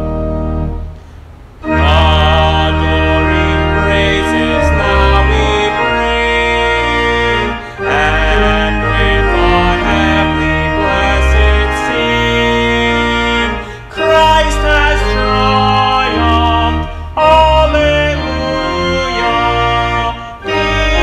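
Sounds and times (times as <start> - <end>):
church organ playing a hymn: 0.0 - 21.0.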